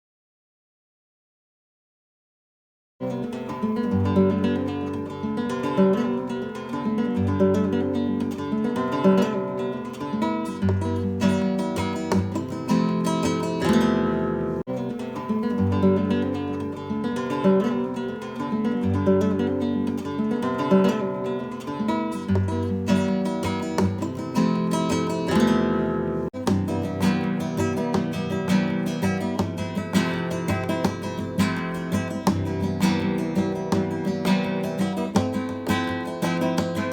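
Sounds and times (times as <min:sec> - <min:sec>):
acoustic guitar chords: 0:03.0 - 0:36.9.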